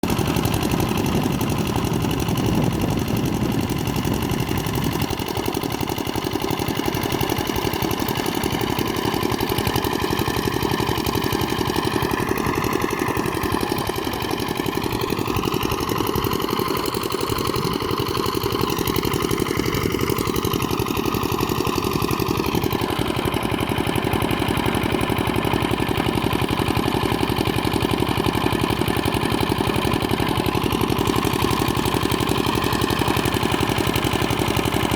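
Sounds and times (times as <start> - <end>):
engine driving water pump: 0.0 - 34.9.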